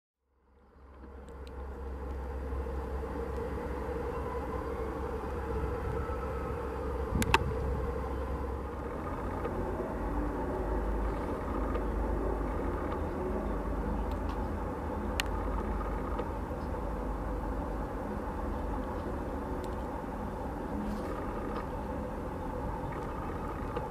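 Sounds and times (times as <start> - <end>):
jet engines idling: 0.5 - 23.9.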